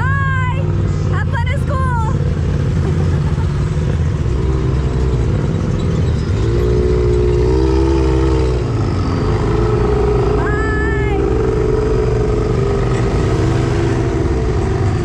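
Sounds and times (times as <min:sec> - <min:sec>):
off-road vehicle engine driving off: 0:00.0 - 0:15.0.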